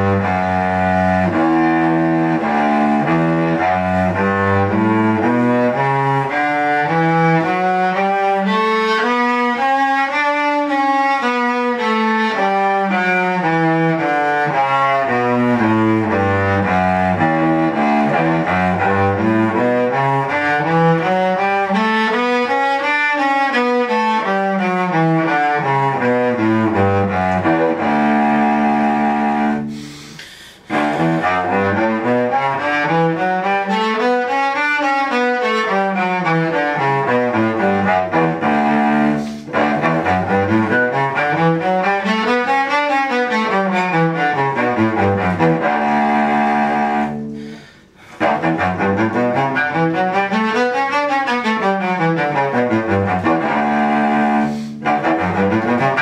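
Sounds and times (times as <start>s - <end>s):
cello playing a scale: 0.0s - 56.0s.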